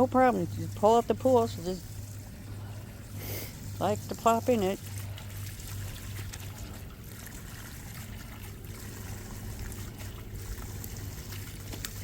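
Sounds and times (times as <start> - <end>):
low hum: 0.0 - 12.0
water running from a hose: 0.0 - 12.0.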